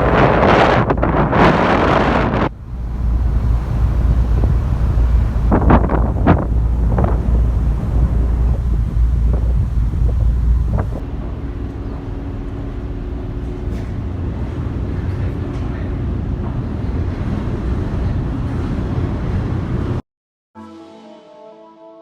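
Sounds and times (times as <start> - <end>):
ferry engine droning: 0.0 - 20.0
wind buffeting microphone: 0.0 - 20.0.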